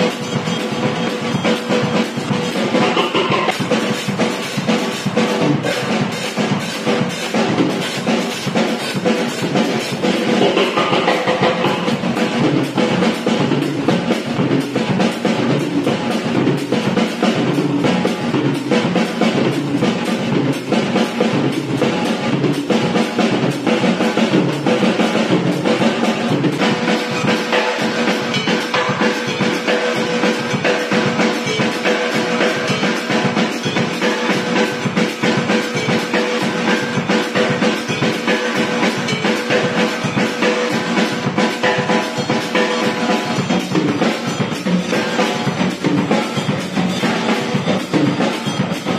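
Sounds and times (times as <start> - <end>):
drum kit samba groove: 0.0 - 48.9.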